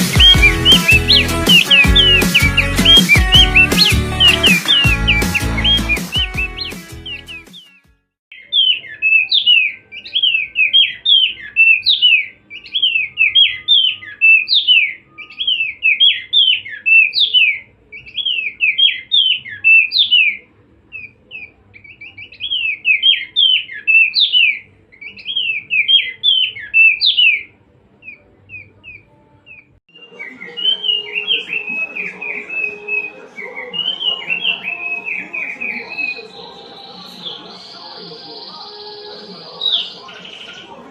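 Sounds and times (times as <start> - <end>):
songbird chirping song: 0.0 - 40.9.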